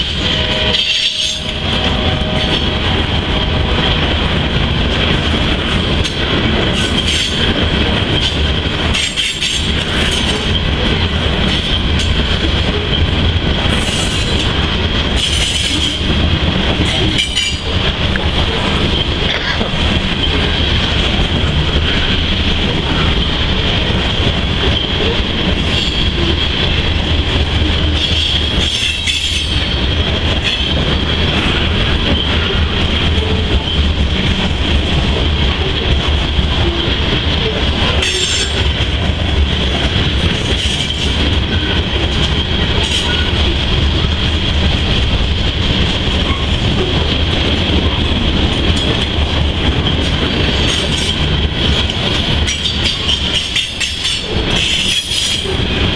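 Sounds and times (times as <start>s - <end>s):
clatter from freight cars: 0.0s - 55.9s
steel wheels rumbling on rail: 0.0s - 55.9s.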